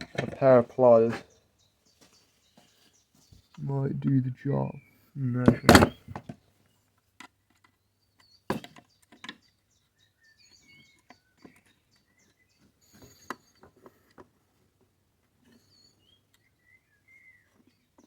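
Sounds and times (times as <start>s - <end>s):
birdsong chirping: 0.0s - 6.9s, 7.7s - 14.7s, 15.3s - 18.0s.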